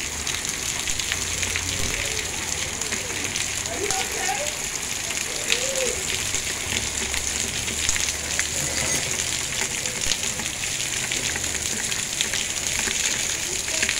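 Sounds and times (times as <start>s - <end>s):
heavy rain and hail falling: 0.0s - 13.9s.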